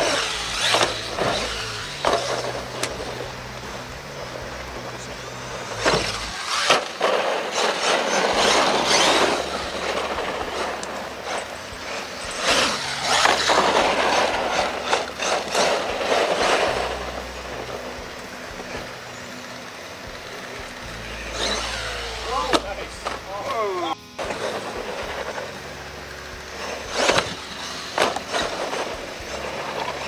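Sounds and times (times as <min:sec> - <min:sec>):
rc truck driving: 0:00.0 - 0:30.0.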